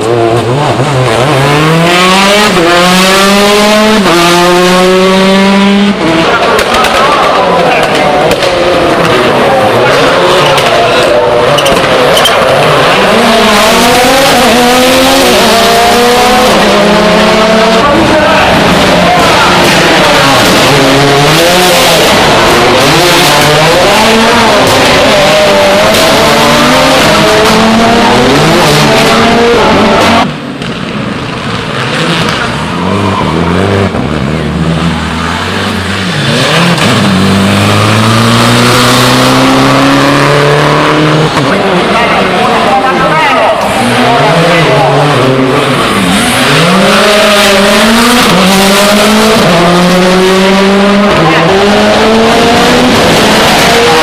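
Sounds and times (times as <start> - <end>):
car engine climbing: 0.0 - 54.0
rally car engines revving: 0.0 - 54.0.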